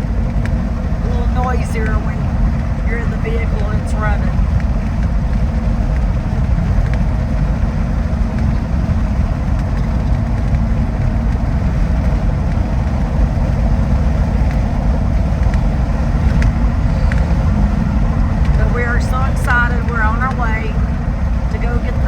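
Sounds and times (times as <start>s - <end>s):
engine and tyre drone in car: 0.0s - 22.0s.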